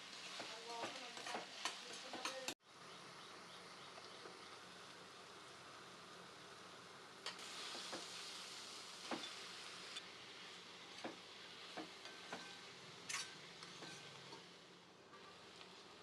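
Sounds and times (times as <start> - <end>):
okra sizzling in a pan: 0.0 - 16.0.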